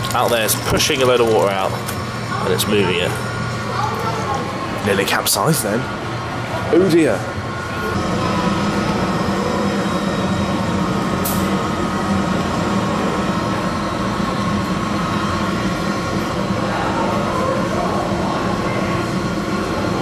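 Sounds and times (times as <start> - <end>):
ship engine drone: 0.0 - 20.0.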